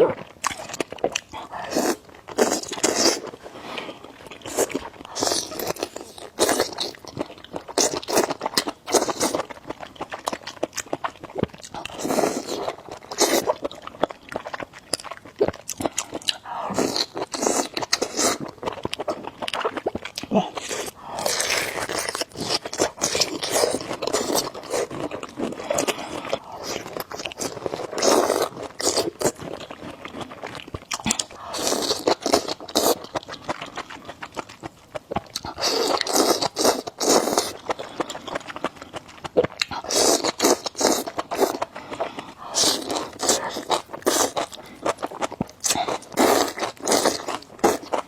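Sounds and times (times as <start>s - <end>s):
biting and crunching food: 0.0s - 48.0s.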